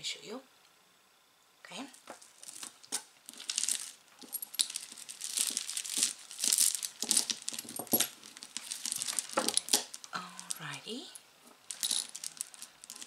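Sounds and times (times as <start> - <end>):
beads and chain clinking: 1.9 - 13.0
crinkling rustle: 1.9 - 13.0.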